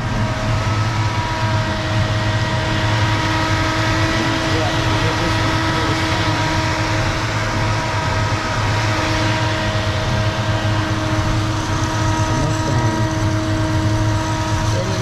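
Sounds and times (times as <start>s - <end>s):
engine idling with whine: 0.0s - 15.0s.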